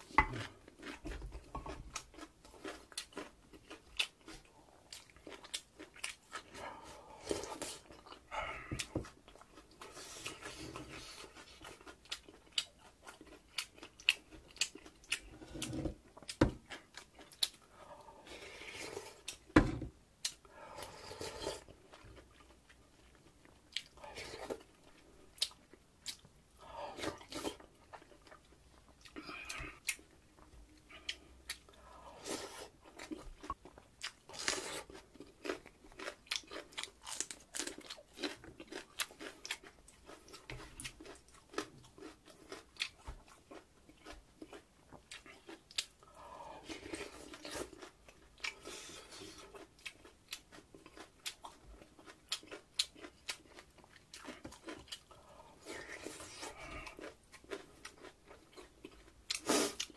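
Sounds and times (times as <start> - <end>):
wet chewing and mouth smacking: 0.0 - 6.8, 7.4 - 17.8, 21.6 - 26.3, 32.7 - 59.9.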